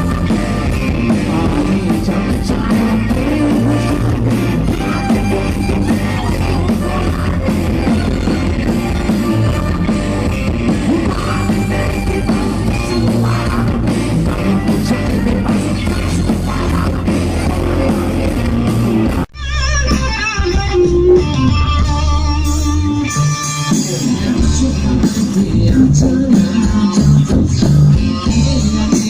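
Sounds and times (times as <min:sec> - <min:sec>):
loud rock music: 0:00.0 - 0:29.0.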